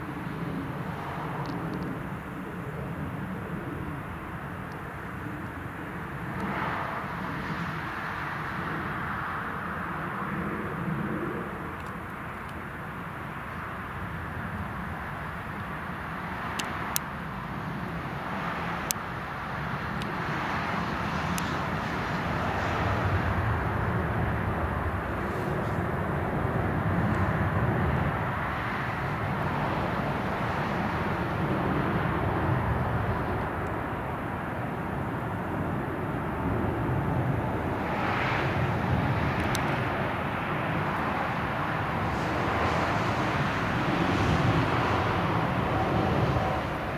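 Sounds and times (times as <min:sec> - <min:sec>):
jet engine roar: 0:00.0 - 0:46.9.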